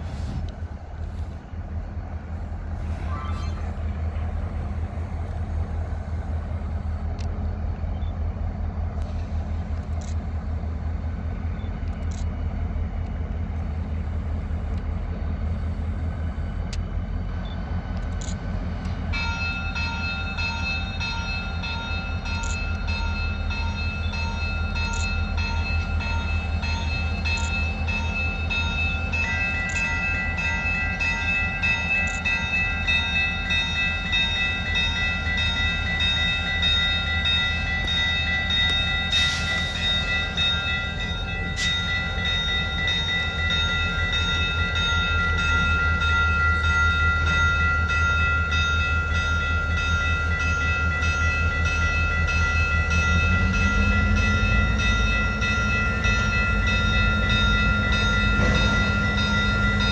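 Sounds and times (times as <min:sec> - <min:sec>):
diesel locomotives rumbling: 0:00.0 - 0:59.9.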